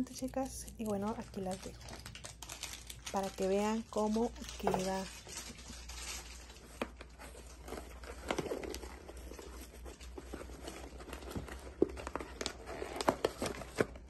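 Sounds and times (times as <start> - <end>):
cardboard packaging rustling: 0.0 - 14.0
low steady hum: 0.0 - 14.0.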